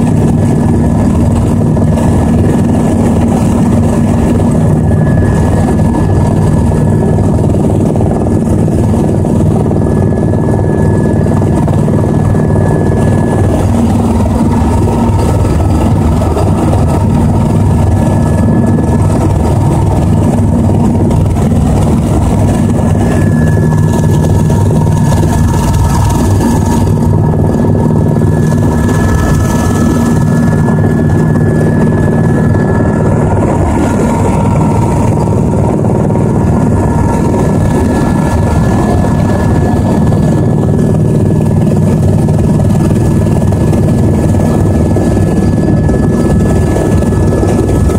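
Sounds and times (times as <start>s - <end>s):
helicopter rotor and engine drone: 0.0s - 47.9s.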